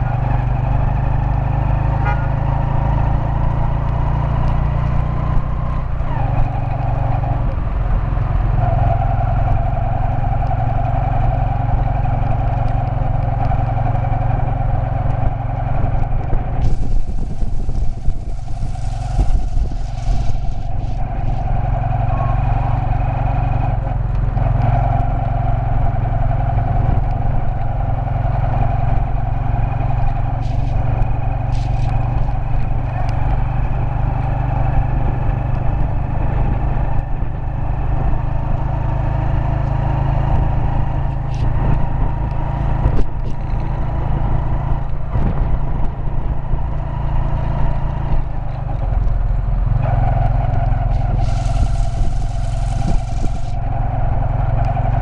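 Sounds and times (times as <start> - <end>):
motorbike engine running: 0.0 - 55.0
rushing gusting noise: 5.8 - 34.7, 39.2 - 55.0.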